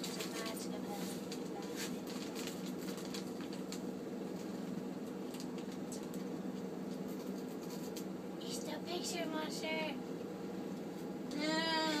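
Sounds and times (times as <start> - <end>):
low hum with held tones: 0.0 - 12.0.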